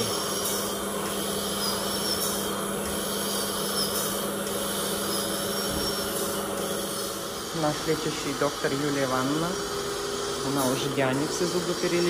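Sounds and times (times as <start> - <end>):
dental drill whining: 0.0 - 12.0
dental unit hum and hiss: 0.0 - 12.0.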